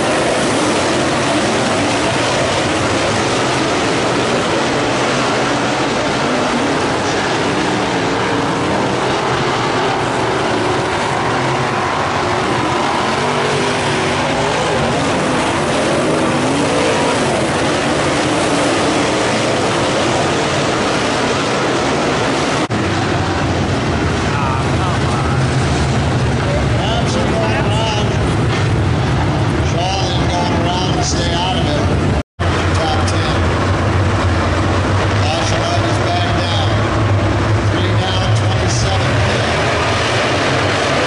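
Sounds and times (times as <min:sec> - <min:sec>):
race car engines at speed: 0:00.0 - 0:41.0.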